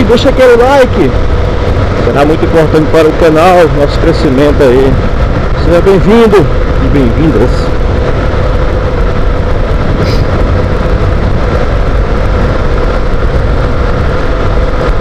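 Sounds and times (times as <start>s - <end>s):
motorcycle engine hum: 0.0s - 15.0s
traffic echoing in tunnel: 0.0s - 15.0s
wind and road rumble: 0.0s - 15.0s.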